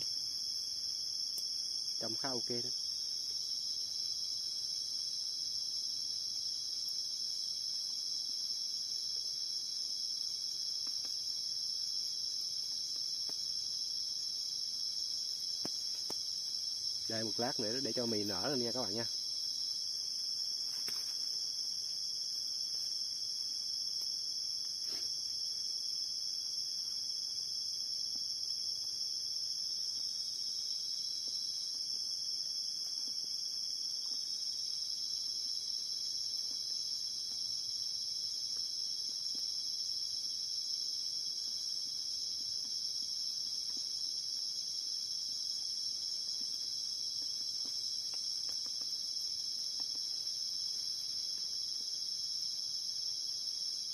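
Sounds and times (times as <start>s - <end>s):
crickets and insects chirping: 0.0s - 53.9s.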